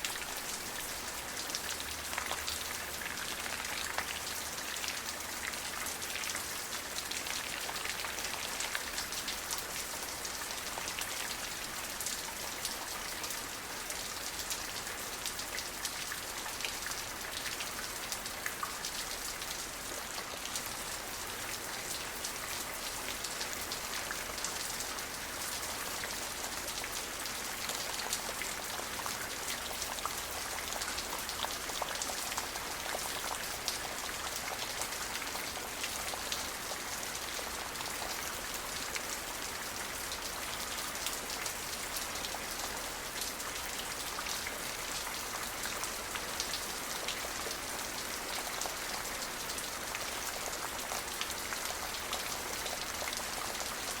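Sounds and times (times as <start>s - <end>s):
raindrops pattering on a surface: 0.0s - 54.0s
steady rain hiss: 0.0s - 54.0s.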